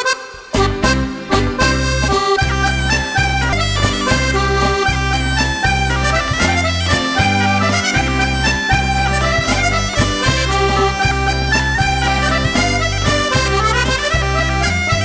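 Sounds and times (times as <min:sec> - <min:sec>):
accordion playing folk dance tune: 0:00.0 - 0:15.0
bagpipe playing: 0:00.0 - 0:15.0.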